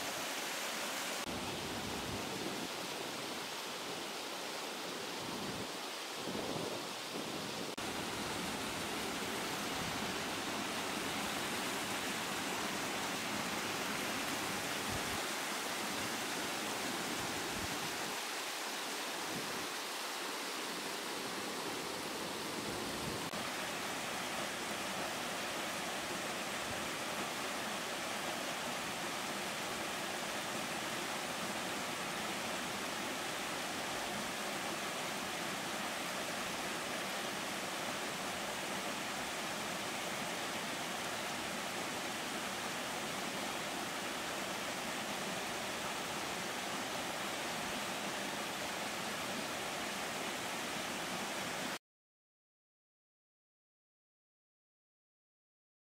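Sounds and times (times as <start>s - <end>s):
waterfall splashing over rocks: 0.0s - 51.8s.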